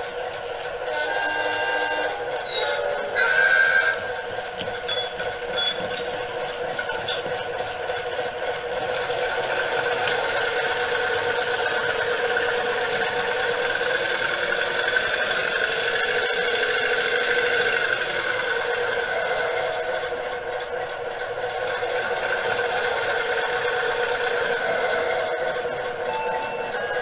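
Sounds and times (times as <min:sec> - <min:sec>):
model locomotive running: 0:00.0 - 0:27.0.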